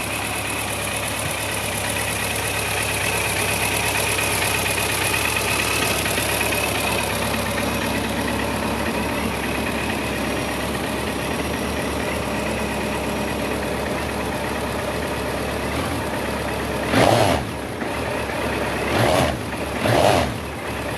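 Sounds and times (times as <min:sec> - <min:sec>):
motorcycle engine idling and revving: 0:00.0 - 0:20.9.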